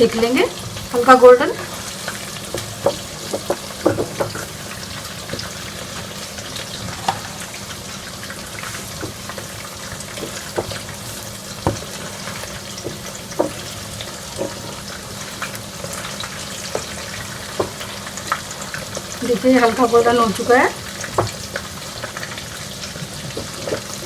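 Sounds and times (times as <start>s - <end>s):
buns sizzling in butter: 0.0s - 24.0s.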